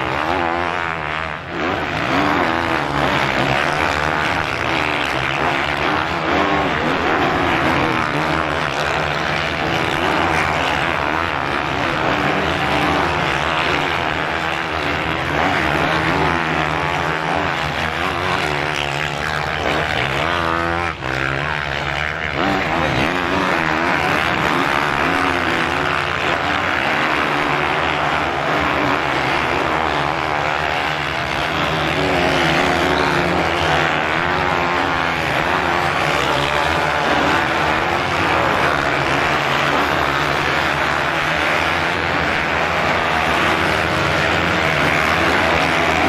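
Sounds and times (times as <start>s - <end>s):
motocross bikes revving: 0.0s - 46.0s.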